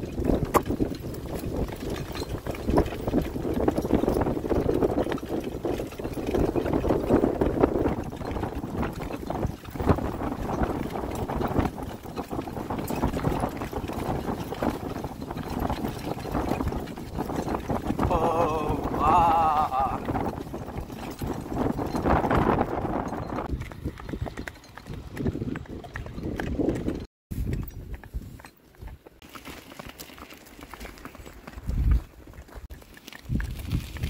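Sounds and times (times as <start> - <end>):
cart wheels crunching on gravel: 0.0 - 34.0
hooves on gravel: 0.0 - 34.0.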